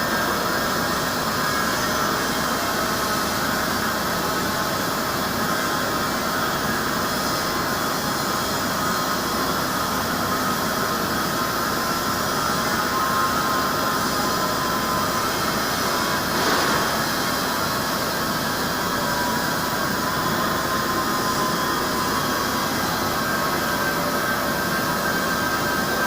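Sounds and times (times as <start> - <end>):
milling machine whirring: 0.1 - 26.0.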